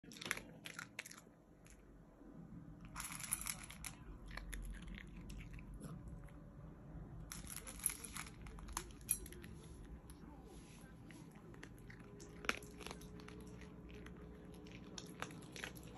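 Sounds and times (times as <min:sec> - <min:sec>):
dog crunching dry kibble: 0:00.0 - 0:01.9, 0:02.8 - 0:06.4, 0:07.2 - 0:10.0, 0:11.2 - 0:15.9.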